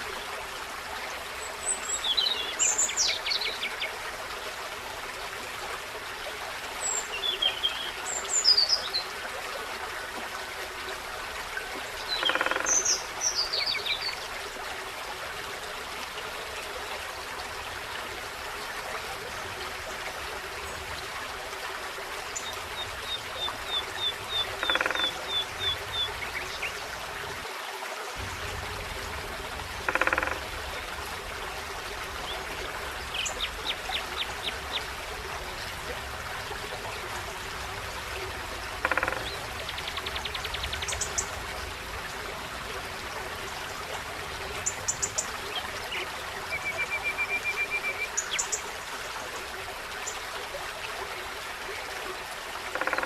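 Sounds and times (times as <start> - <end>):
brook flowing: 0.0 - 53.0.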